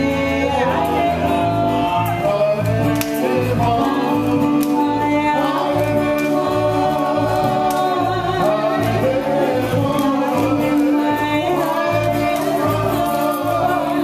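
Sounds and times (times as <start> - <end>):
group singing: 0.0 - 14.0.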